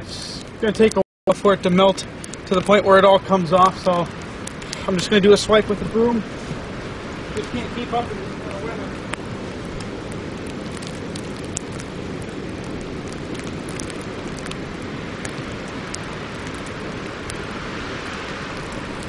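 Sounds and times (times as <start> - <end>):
high wind rumble and hiss: 0.0 - 19.0.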